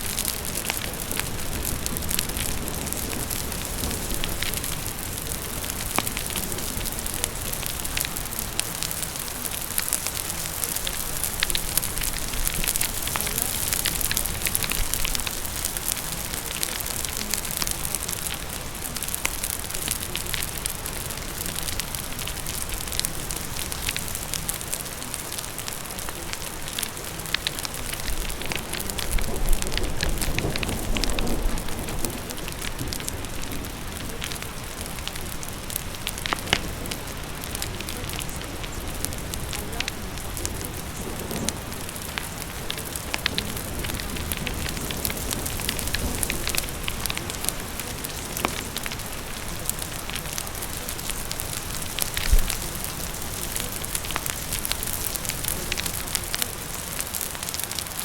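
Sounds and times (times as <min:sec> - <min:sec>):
steady rain: 0:00.0 - 0:58.0
wood fire crackling and popping: 0:00.0 - 0:58.0.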